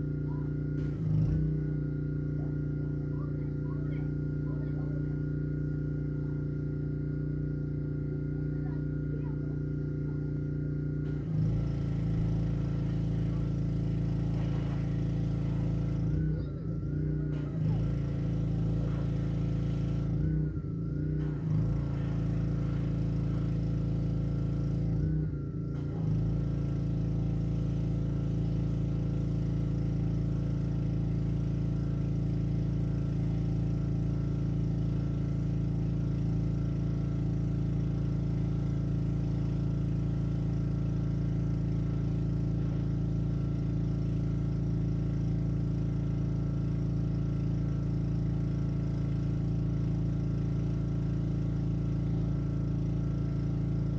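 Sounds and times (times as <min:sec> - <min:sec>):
pressure washer engine running: 0:00.0 - 0:53.9.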